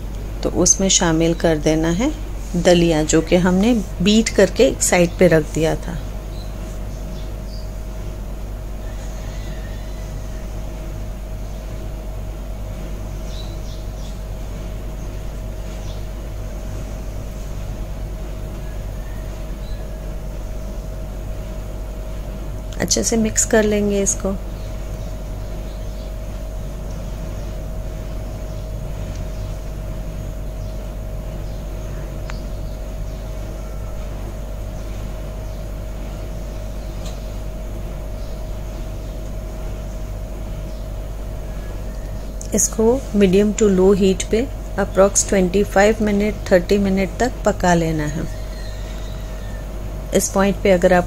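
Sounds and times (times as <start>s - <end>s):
faint whine: 0.0s - 51.0s
low mechanical hum: 0.0s - 51.0s.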